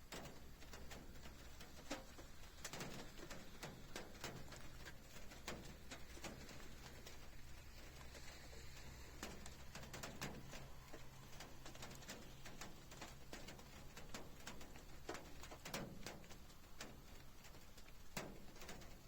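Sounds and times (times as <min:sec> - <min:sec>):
rain tapping on hard surface: 0:00.0 - 0:19.0.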